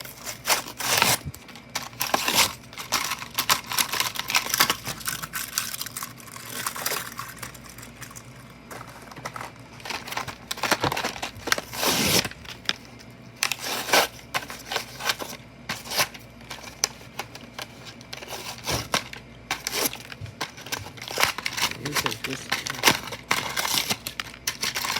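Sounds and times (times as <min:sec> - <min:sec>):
packaging rustle: 0:00.0 - 0:24.9
plastic and cardboard crinkling: 0:00.0 - 0:24.9.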